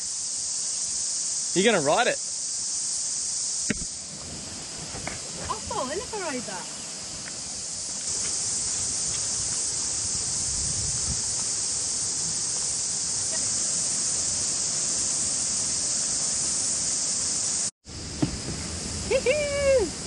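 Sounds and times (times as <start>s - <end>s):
cicadas chorus: 0.0s - 20.0s.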